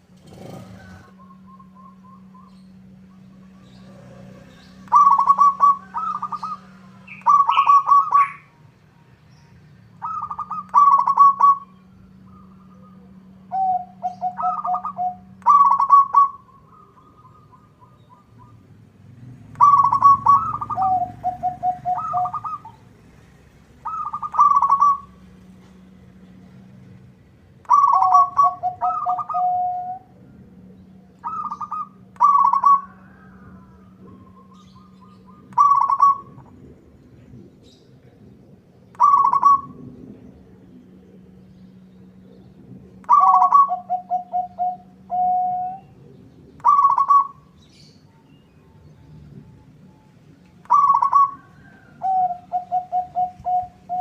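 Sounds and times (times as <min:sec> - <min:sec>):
dove cooing song: 0:00.0 - 0:54.0
steady low hum: 0:00.0 - 0:54.0.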